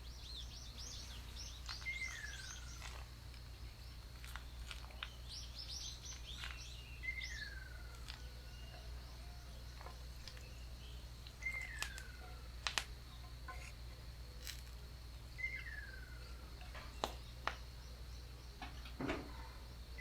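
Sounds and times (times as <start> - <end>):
faint high insect drone: 0.0 - 20.0.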